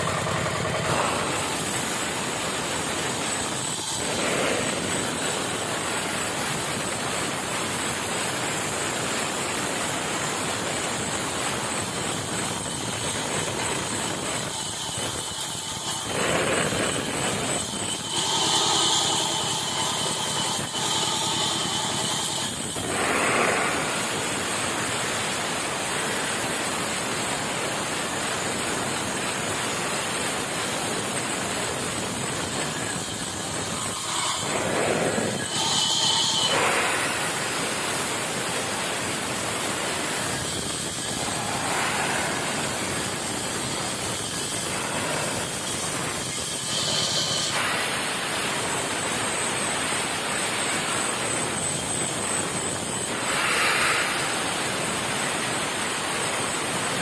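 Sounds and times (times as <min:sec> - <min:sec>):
high-pitched machine whine: 0:00.0 - 0:57.0
sawmill machinery running: 0:00.0 - 0:57.0.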